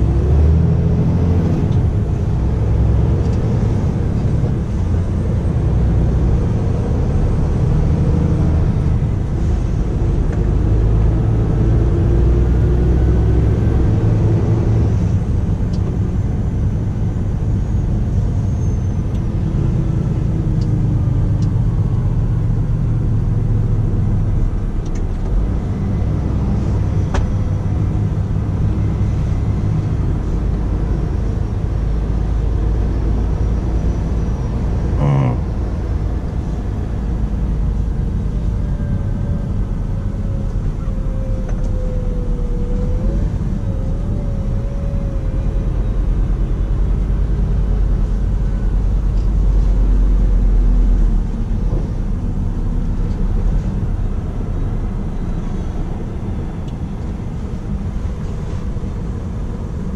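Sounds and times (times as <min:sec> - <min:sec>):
low rumble of road noise: 0:00.0 - 0:59.9.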